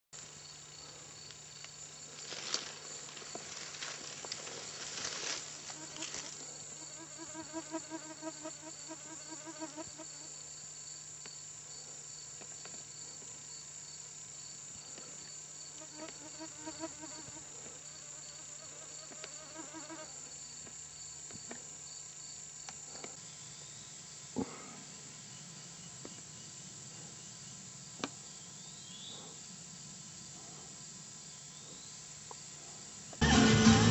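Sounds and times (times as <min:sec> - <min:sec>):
insects chirping: 0:00.2 - 0:33.2.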